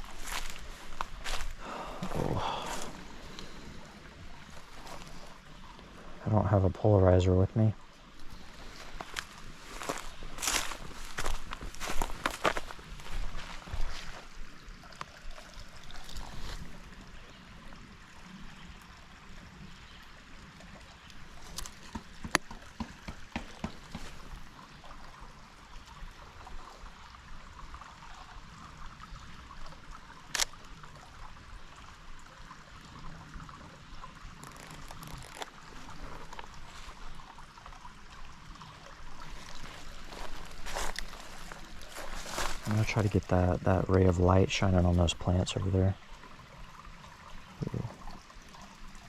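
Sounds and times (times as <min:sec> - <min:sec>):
water trickling: 0:00.0 - 0:49.0.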